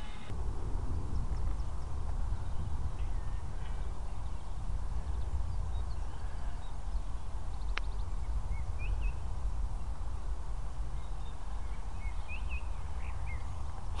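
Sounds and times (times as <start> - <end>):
wind rumbling on microphone: 0.0 - 14.0
small birds chirping: 0.9 - 14.0.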